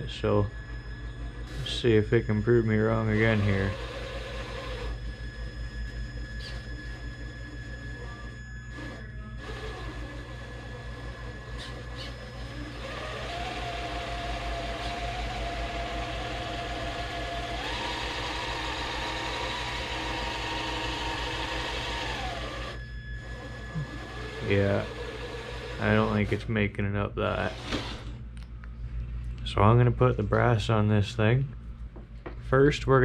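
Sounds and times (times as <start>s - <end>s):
electric motor whining: 0.0s - 26.5s, 27.3s - 28.2s
steady low hum: 0.0s - 33.0s.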